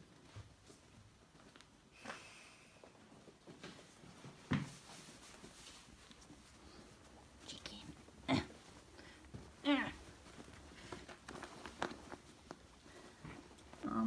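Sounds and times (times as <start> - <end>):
ferrets rustling on a blanket: 0.0 - 14.0.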